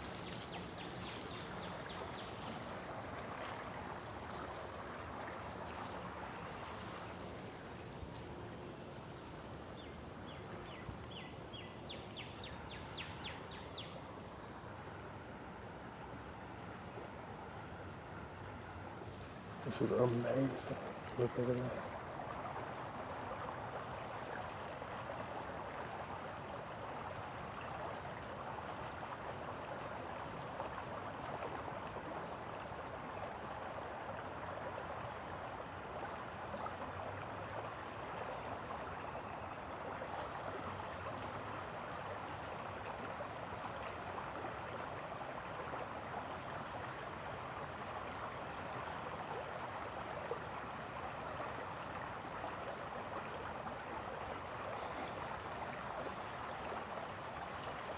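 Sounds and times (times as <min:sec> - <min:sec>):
flowing stream: 0:00.0 - 0:57.9.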